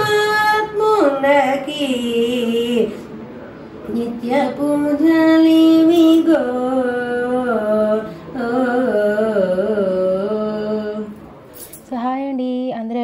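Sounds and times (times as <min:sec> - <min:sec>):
woman singing unaccompanied: 0:00.0 - 0:03.0, 0:03.9 - 0:11.2, 0:11.8 - 0:13.0.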